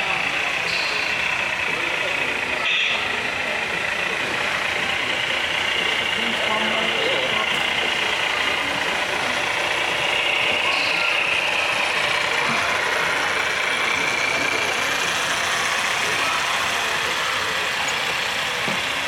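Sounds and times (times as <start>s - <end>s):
toy truck motor whine: 0.0s - 19.0s.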